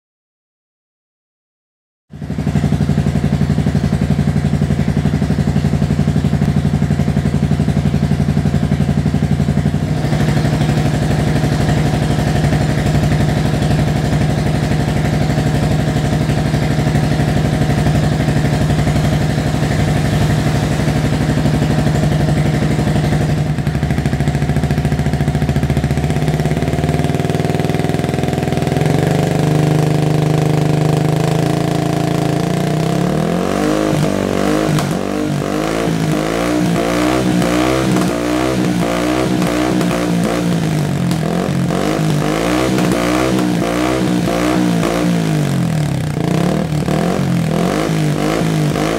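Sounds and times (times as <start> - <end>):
motorcycle engine idling: 2.1 - 48.9.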